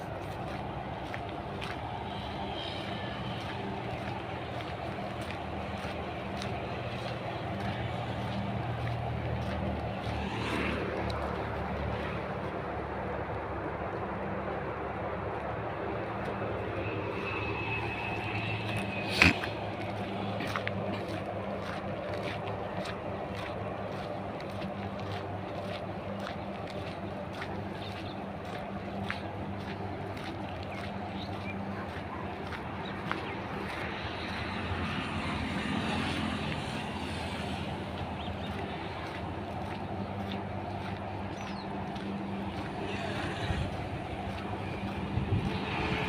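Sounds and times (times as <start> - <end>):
low motor hum: 0.0 - 46.0.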